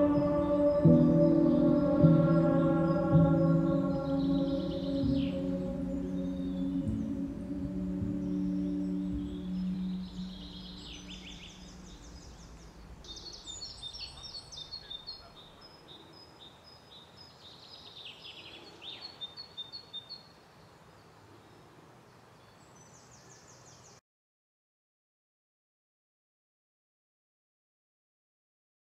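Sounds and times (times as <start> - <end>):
faint steady hiss: 0.0 - 24.0
songbirds singing: 0.0 - 24.0.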